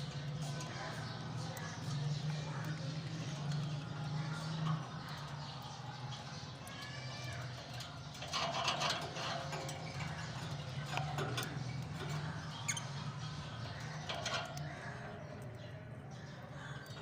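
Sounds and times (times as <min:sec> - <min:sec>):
lovebirds chattering and squawking: 0:00.0 - 0:17.0.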